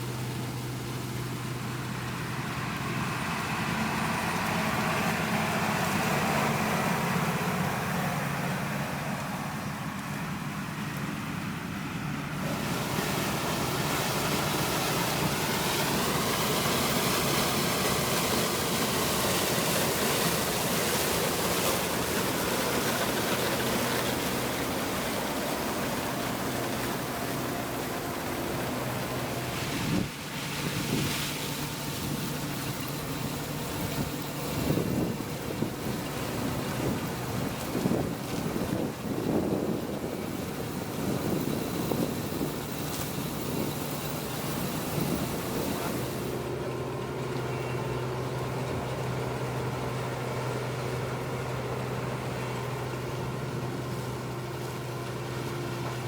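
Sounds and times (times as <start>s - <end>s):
farm machinery engine running: 0.0s - 56.0s.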